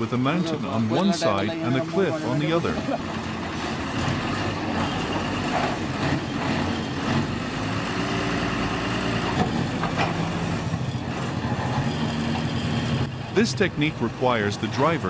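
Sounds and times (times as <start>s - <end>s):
truck engine at low revs: 0.0s - 15.0s.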